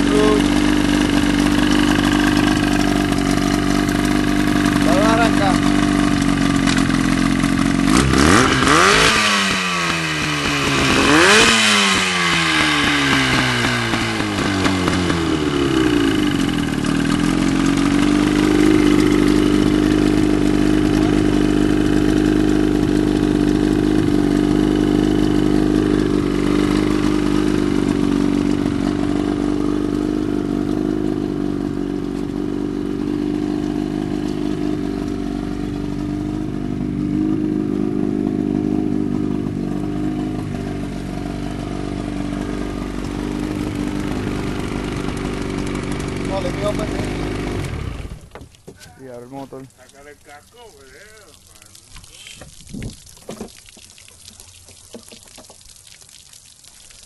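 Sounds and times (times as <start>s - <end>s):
outboard motor revving and idling: 0.0s - 55.6s.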